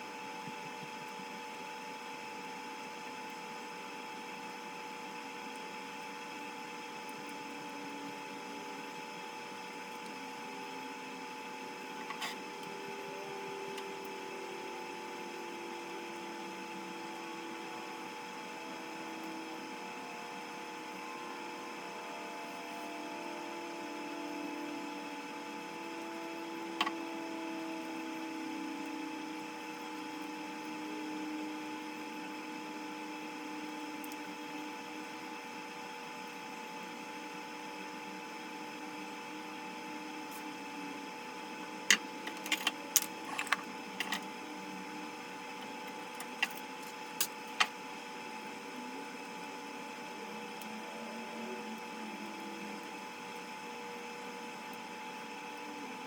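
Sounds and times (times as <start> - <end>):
steady hum with wavering tones: 0.0 - 56.0.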